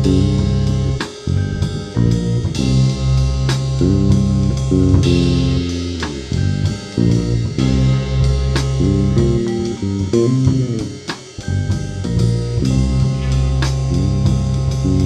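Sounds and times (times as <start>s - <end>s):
lo-fi music with guitar and drums: 0.0s - 15.0s.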